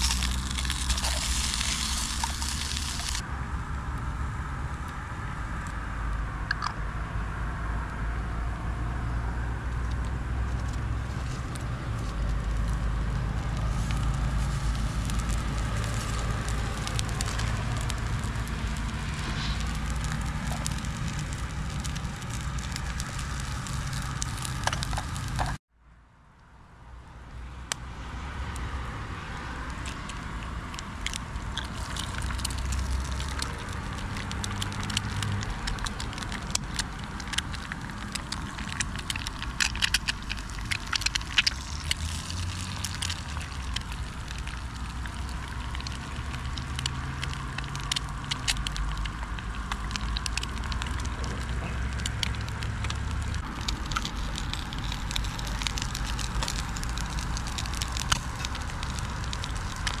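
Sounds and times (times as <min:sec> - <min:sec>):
food sizzling and popping in pan: 0:00.0 - 0:03.2, 0:10.7 - 0:25.6, 0:29.3 - 1:00.0
low road traffic rumble: 0:00.0 - 1:00.0.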